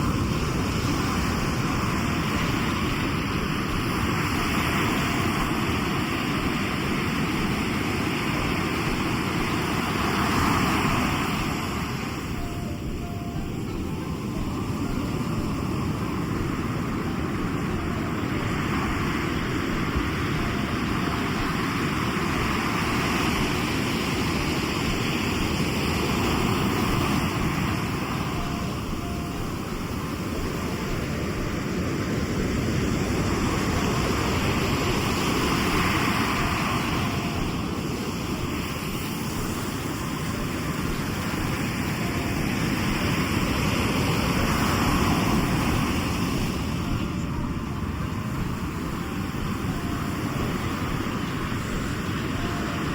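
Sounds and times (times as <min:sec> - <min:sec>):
sea waves breaking on shore: 0:00.0 - 0:52.9.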